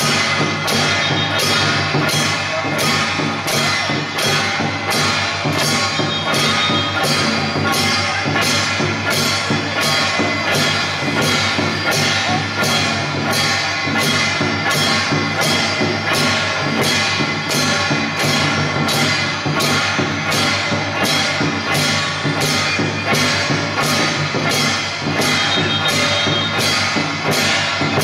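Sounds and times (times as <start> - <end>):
cymbal-like crashes: 0.0 - 28.0.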